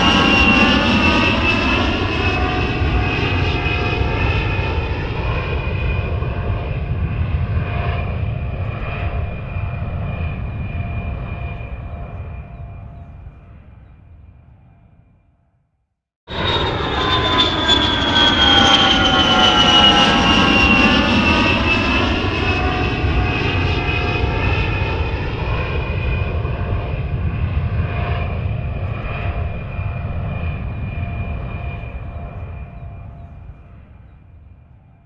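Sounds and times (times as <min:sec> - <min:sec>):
jet aircraft flying past: 0:00.0 - 0:15.2, 0:16.3 - 0:35.0.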